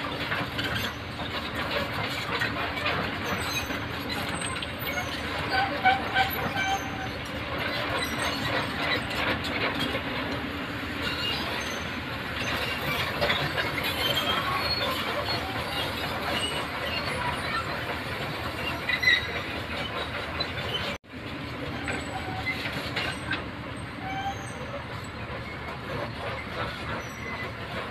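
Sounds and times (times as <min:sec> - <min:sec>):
excavator running: 0:00.0 - 0:27.9
metallic track squeaks and clanks: 0:00.0 - 0:27.9.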